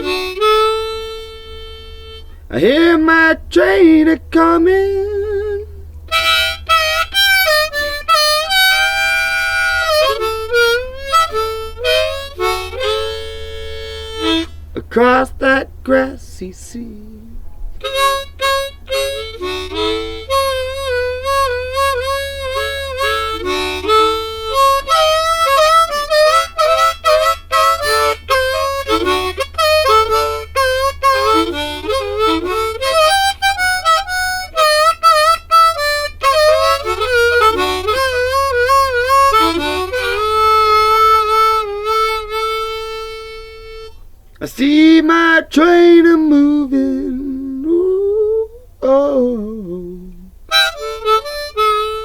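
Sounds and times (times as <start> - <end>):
bluesy harmonica solo: 0.0 - 52.0
low hum: 0.0 - 52.0.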